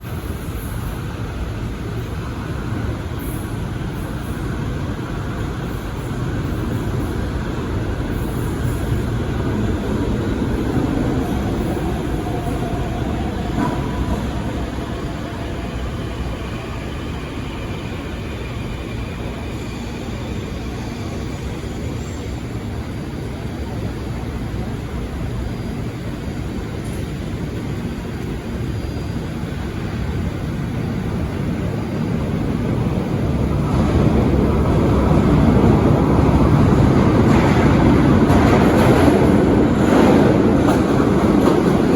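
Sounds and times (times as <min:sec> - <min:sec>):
subway train rumble: 0:00.0 - 0:41.9.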